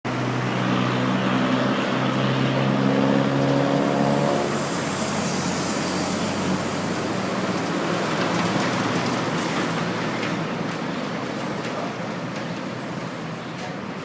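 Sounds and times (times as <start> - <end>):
vehicle engine hum: 0.1 - 14.0.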